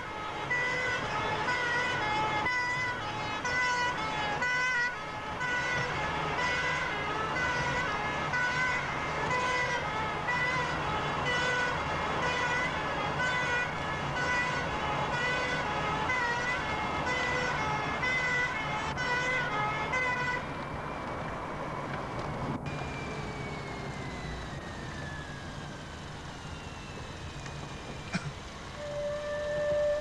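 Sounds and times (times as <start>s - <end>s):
engine rumble: 0.0s - 30.0s
fire engine two-tone siren: 0.0s - 30.0s.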